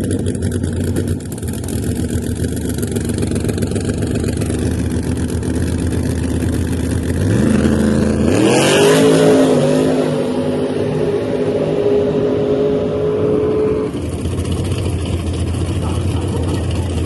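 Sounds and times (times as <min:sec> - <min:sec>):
drag car engine idling and revving: 0:00.0 - 0:17.0.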